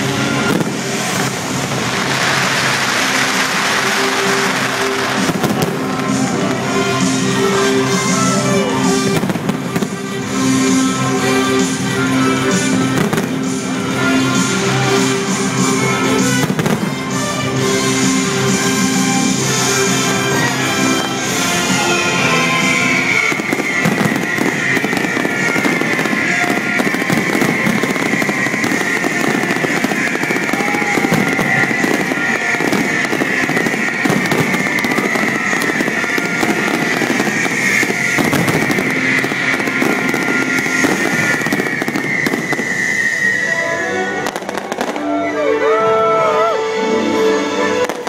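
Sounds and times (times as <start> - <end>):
fireworks crackling and bangs: 0.0 - 45.4, 47.8 - 48.0
music on loudspeakers: 0.0 - 48.0.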